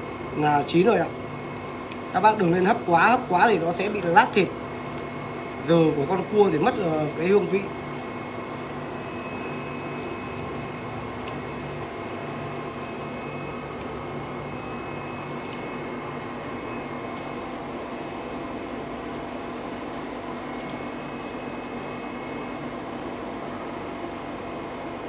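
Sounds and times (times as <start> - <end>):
fan hum and hiss: 0.0 - 25.0.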